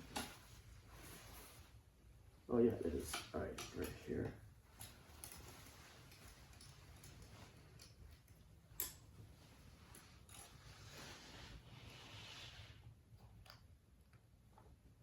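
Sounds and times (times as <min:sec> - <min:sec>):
light rustling of wire: 0:00.0 - 0:13.8.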